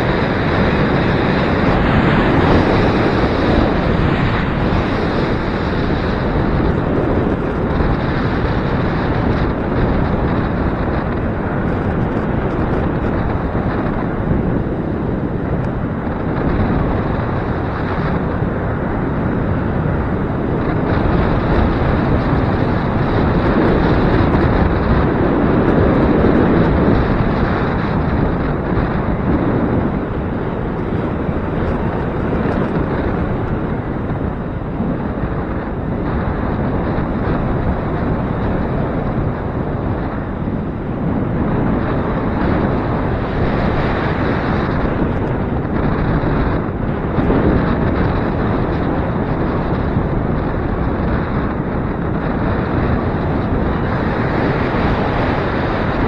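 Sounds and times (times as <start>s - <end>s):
wind blowing over microphone: 0.0s - 56.0s.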